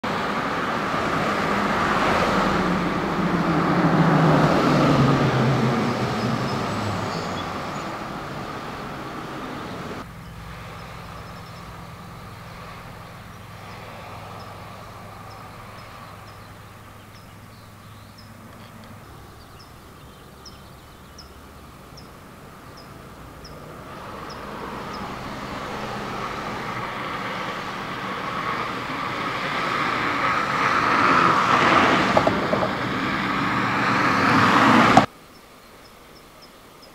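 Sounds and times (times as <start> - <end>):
heavy vehicle passing: 0.0 - 35.1
distant traffic hum: 0.0 - 36.9.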